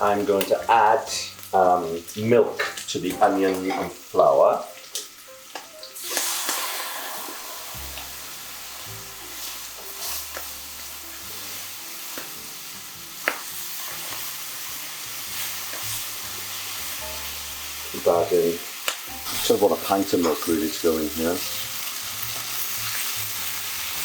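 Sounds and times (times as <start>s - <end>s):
sizzling in a pan: 0.0s - 24.0s.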